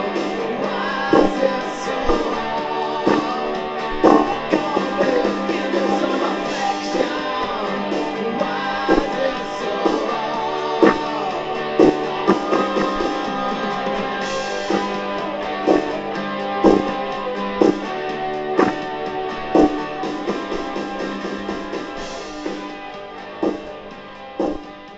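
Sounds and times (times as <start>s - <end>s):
rock music: 0.0s - 24.9s.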